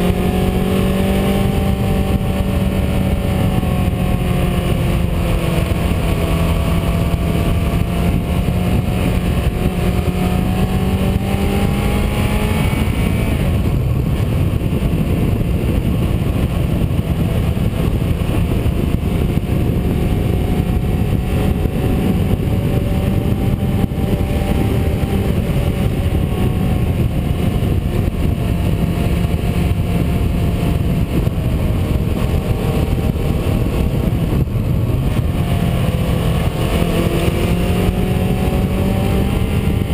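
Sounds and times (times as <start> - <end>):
heavy wind: 0.0 - 39.9
tire and road noise: 0.0 - 39.9.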